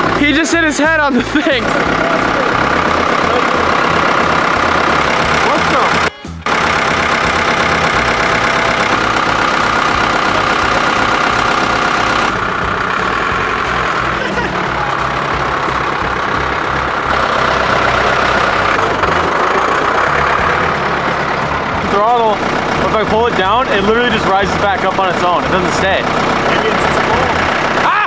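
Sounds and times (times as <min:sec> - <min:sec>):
diesel tractor engine running: 0:00.0 - 0:28.0.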